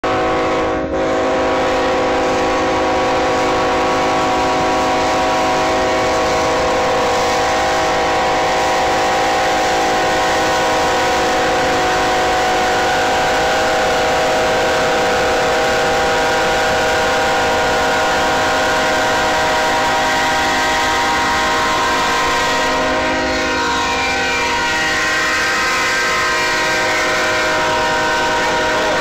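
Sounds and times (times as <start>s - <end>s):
drone of held tones: 0.0s - 29.0s.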